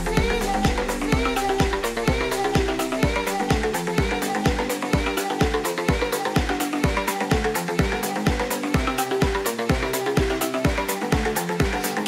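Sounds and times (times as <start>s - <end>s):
kick drum: 0.0s - 11.8s
sustained synth chords: 0.0s - 12.0s.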